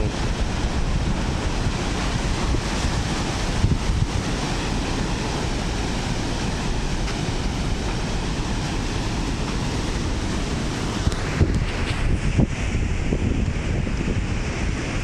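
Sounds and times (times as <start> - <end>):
ocean surf breaking against rocks: 0.0 - 15.0
wind rumbling on microphone: 0.0 - 15.0.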